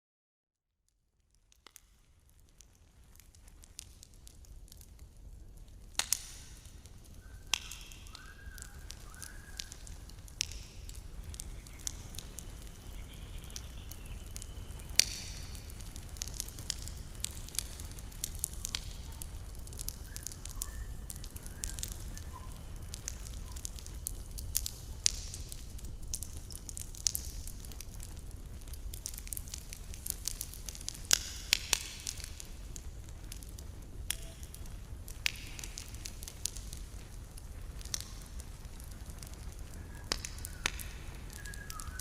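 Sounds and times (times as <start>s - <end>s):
campfire crackling and popping: 0.9s - 42.0s.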